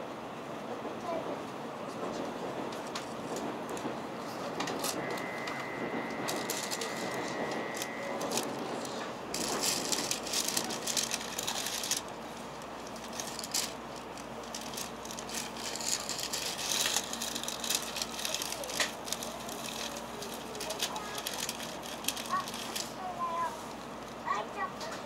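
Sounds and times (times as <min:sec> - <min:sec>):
steady low hum: 0:01.8 - 0:24.3.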